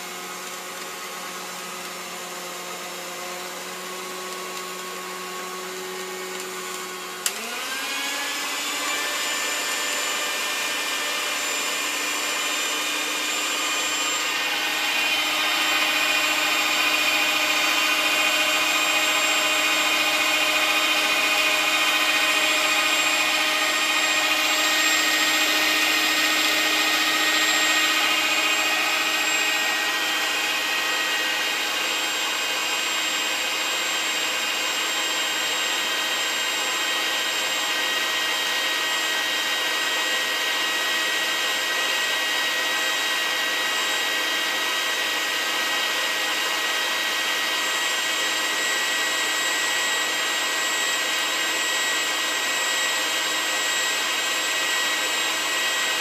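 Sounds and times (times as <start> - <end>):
food mixer motor whining: 0.0 - 56.0.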